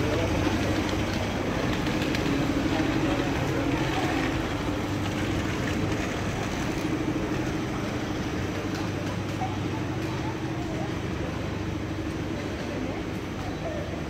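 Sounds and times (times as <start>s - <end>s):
faint voices of passers-by: 0.0s - 14.0s
traffic engine hum: 0.0s - 14.0s.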